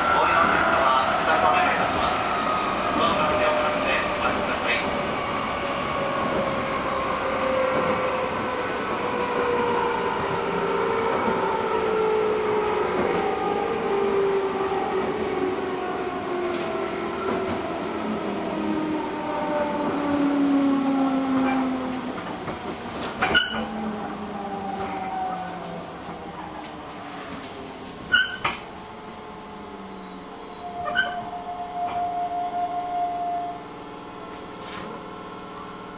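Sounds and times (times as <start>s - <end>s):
wheels rumbling on rails: 0.0s - 35.9s.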